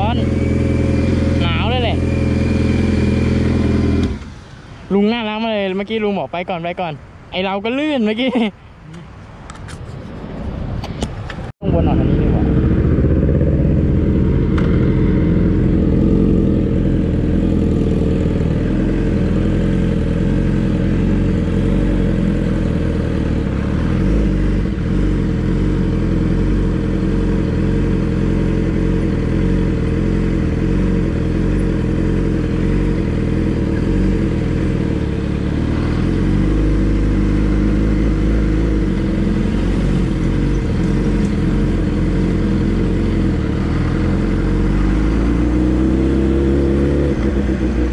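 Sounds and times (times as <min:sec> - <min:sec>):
motorcycle engine running: 0:00.0 - 0:04.3, 0:11.7 - 0:47.9.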